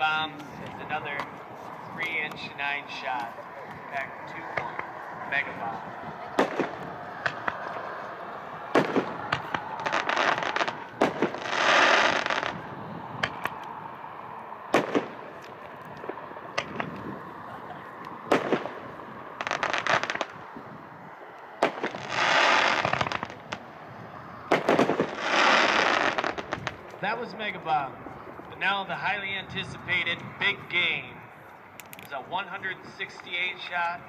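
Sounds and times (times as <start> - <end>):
firework bangs: 0.0 - 13.9, 14.7 - 17.4, 18.1 - 28.8
firework crackling: 0.0 - 28.6.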